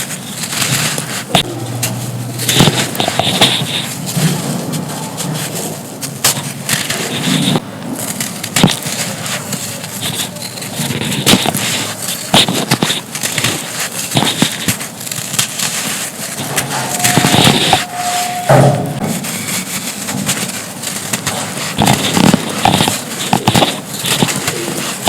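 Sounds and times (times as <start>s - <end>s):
sand chunks crunching: 0.0s - 18.0s, 19.0s - 25.0s.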